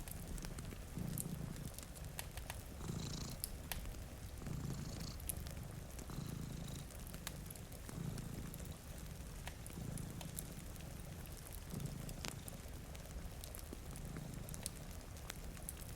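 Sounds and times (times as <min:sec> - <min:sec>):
cat purring: 0:00.0 - 0:15.9
rain hiss: 0:00.0 - 0:15.9
wood fire crackling: 0:00.0 - 0:15.9.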